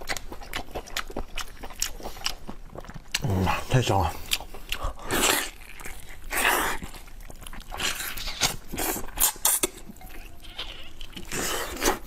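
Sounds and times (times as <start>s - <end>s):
wet chewing mouth sounds: 0.0s - 12.0s.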